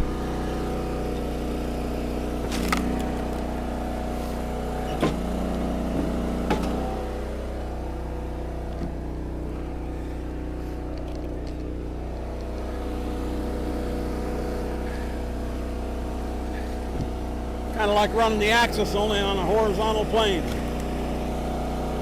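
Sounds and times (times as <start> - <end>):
log splitter engine running: 0.0 - 22.0.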